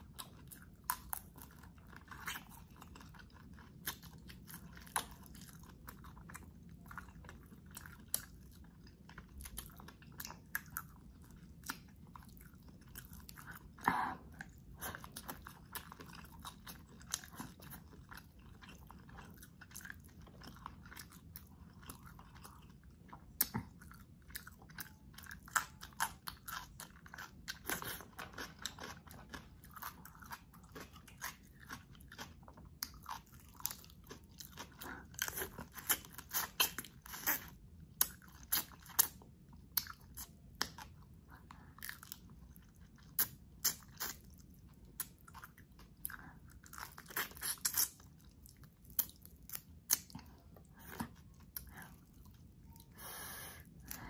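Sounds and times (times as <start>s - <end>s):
wet crunchy chewing: 0.0s - 52.9s.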